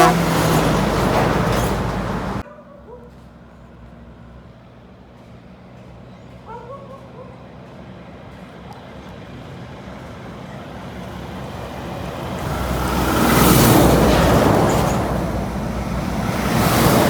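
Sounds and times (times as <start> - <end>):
vehicles passing on highway: 0.0 - 2.4, 3.3 - 17.0.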